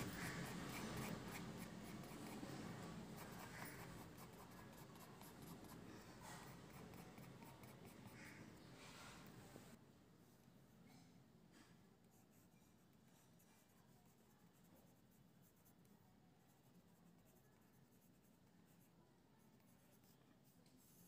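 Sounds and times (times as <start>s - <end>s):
pencil scratching on paper: 0.0s - 9.7s, 12.0s - 21.0s.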